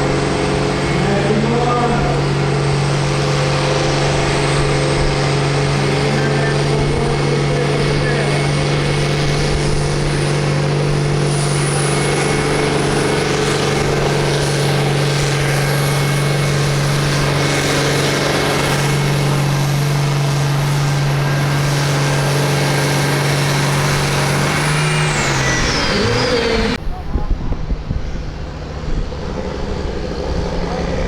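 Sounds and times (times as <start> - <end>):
tractor engine at high revs: 0.0 - 31.0.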